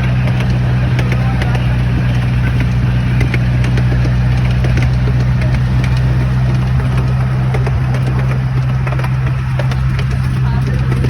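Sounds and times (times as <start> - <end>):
engine humming: 0.0 - 11.0
light clicks and rattles: 0.0 - 11.0.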